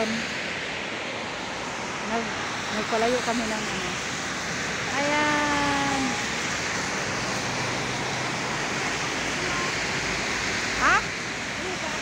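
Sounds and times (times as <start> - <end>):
rushing outdoor background noise: 0.0 - 12.0.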